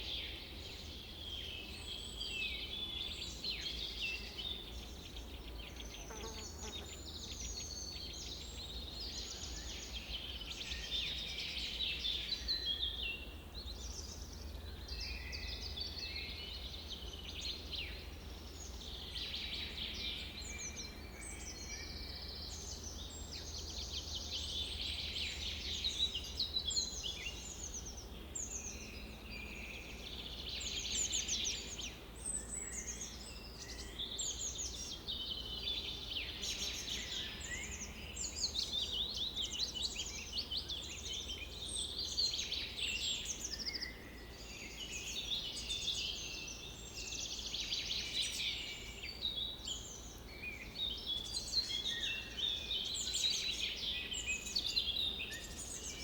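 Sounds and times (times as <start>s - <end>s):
chorus of birds singing: 0.0s - 56.0s.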